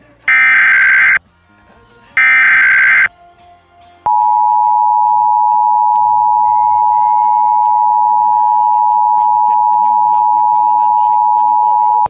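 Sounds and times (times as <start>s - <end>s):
two-tone alarm signal: 0.3s - 1.2s, 2.2s - 3.1s, 4.1s - 12.0s.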